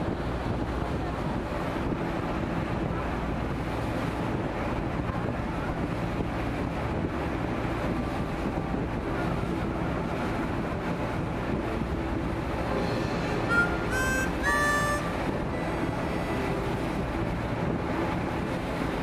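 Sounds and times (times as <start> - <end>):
ferry engine hum: 0.0 - 19.0
water rushing along hull: 0.0 - 19.0
wind buffeting microphone: 0.0 - 19.0.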